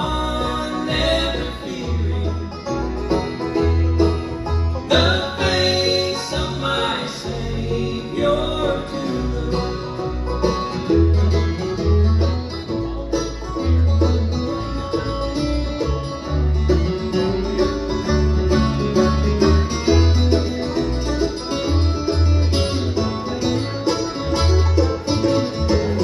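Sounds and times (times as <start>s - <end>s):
bluegrass band playing: 0.0s - 26.0s.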